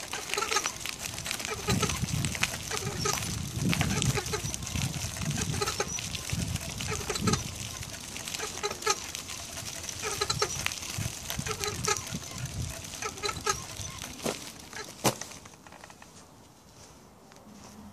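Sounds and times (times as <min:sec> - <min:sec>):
hub motor squeaking: 0:00.0 - 0:16.1.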